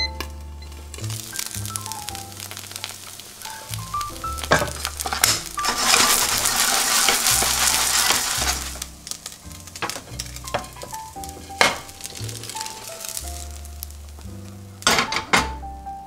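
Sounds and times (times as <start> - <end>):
background music with bass: 0.0 - 16.0
batter sizzling in oil: 0.5 - 15.0.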